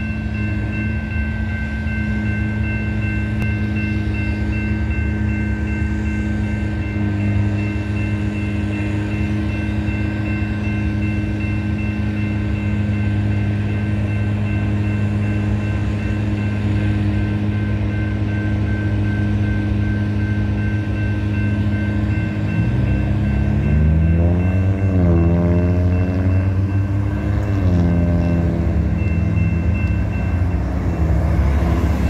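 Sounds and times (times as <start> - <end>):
crossing warning bell ringing: 0.0 - 32.0
locomotive engine drone: 0.0 - 32.0.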